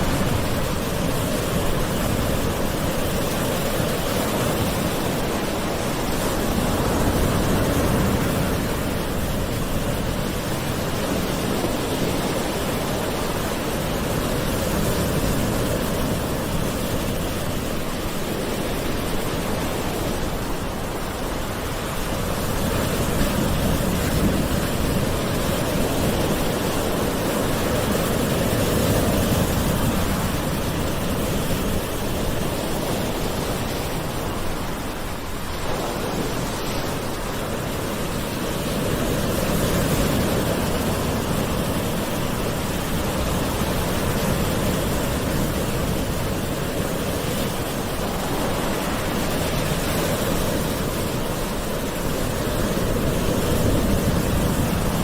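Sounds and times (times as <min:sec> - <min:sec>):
gentle ocean waves: 0:00.0 - 0:55.0.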